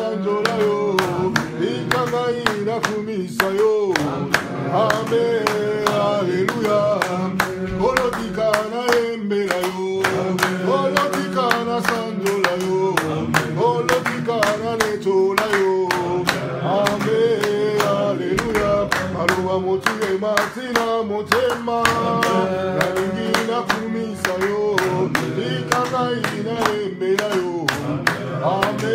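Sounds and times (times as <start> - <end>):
group singing worship song: 0.0 - 28.9
regular hand-clapping: 0.0 - 28.9.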